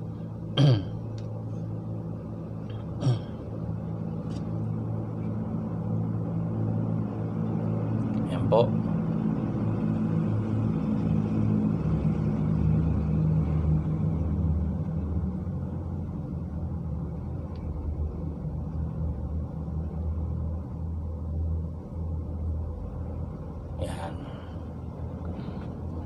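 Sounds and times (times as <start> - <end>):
low engine-like rumble: 0.0 - 26.0.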